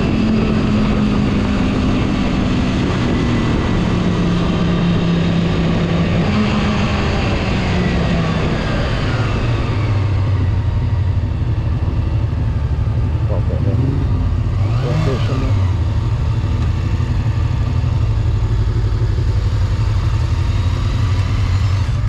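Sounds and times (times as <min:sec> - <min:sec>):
wind rush on microphone: 0:00.0 - 0:22.0.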